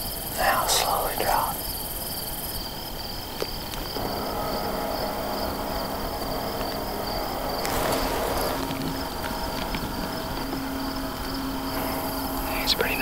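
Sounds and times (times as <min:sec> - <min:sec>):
faint low hum: 0:00.0 - 0:13.0
insects trilling: 0:00.0 - 0:13.0.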